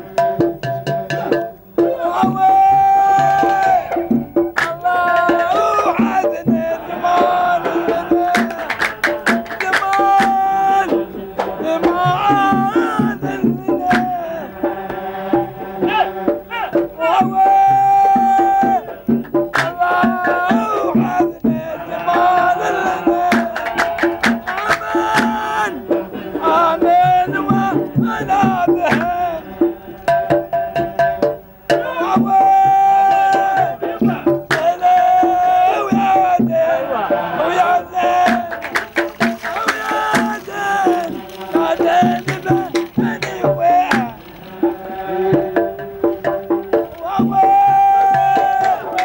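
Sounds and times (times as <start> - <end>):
hand drum percussion: 0.0 - 49.0.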